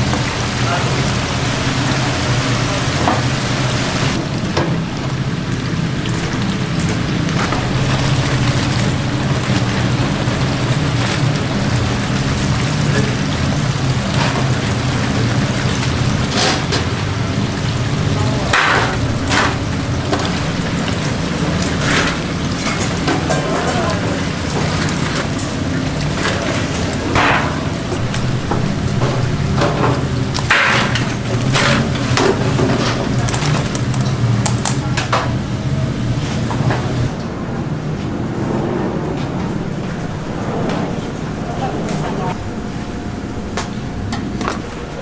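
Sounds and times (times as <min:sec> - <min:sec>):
steady hissing noise: 0:00.0 - 0:38.8.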